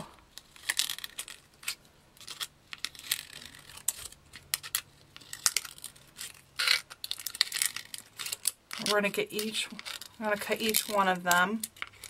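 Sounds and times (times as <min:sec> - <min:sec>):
plastic rustling: 0:00.0 - 0:12.0.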